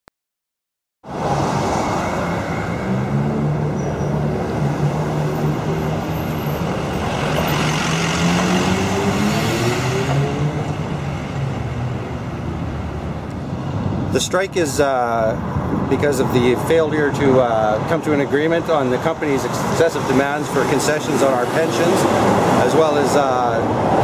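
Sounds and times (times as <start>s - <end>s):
street traffic noise: 1.0s - 24.0s.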